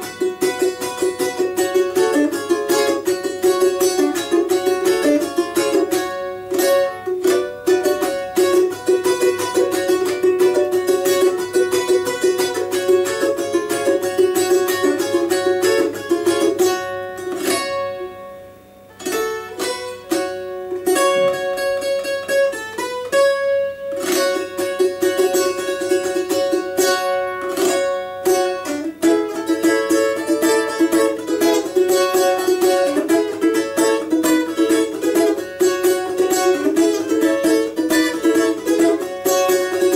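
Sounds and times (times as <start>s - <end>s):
balalaika strummed rapidly: 0.0s - 39.9s.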